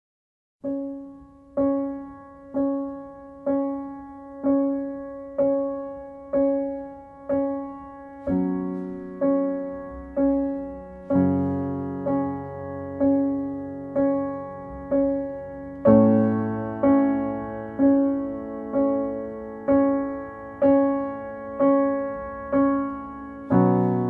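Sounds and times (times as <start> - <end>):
slow piano music: 0.6 - 24.0.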